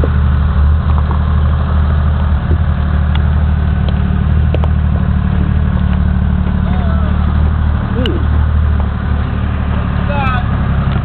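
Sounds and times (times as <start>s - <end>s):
diesel engine running at low revs: 0.0s - 11.0s.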